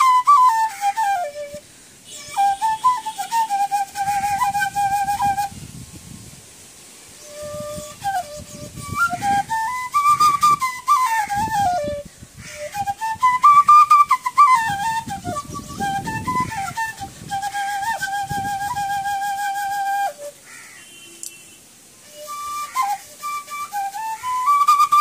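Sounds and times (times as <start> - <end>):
bamboo flute melody: 0.0 - 6.2, 7.1 - 21.3, 22.0 - 25.0.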